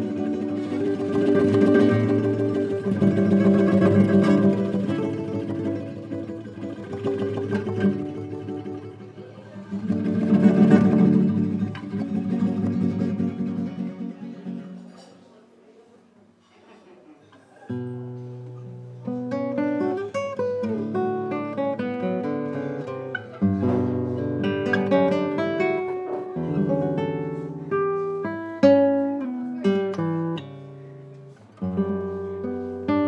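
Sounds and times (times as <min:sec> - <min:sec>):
classical guitar melody: 0:00.0 - 0:15.5, 0:17.6 - 0:33.0.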